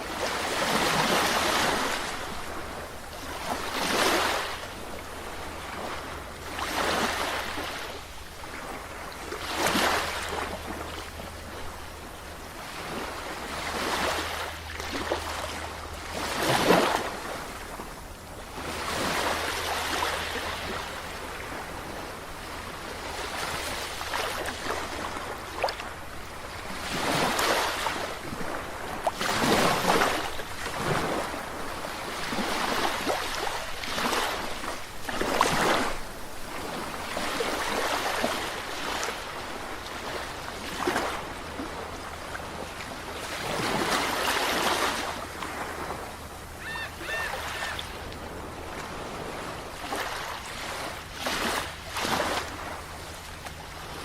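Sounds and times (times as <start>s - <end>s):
ocean surf washing onto shore: 0.0s - 54.0s
constant low rumble: 7.3s - 54.0s.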